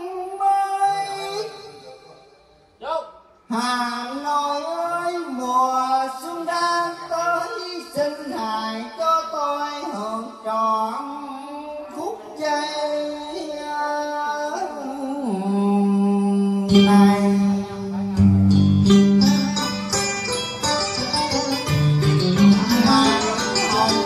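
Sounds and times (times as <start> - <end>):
man singing into a microphone: 0.0 - 19.6, 22.4 - 24.0
karaoke backing music: 3.5 - 24.0.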